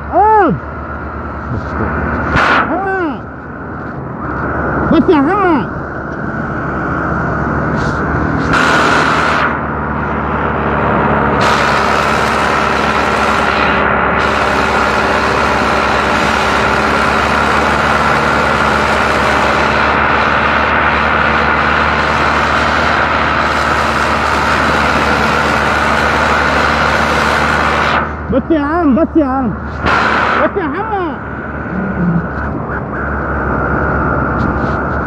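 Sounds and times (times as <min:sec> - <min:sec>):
tractor engines under heavy load: 0:00.0 - 0:35.0.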